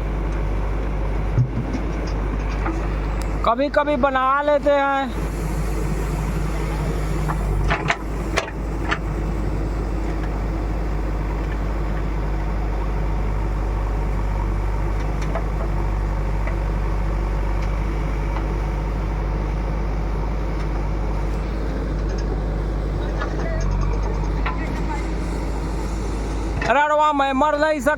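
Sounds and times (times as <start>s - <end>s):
diesel engine humming: 0.0s - 27.9s.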